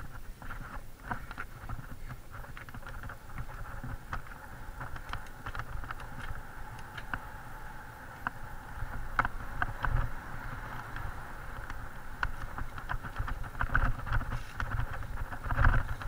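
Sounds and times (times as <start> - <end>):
bike clicks and rattles: 0.0 - 16.0
bike tyres on dirt and leaves: 0.0 - 16.0
wind rumbling on microphone: 0.0 - 16.0.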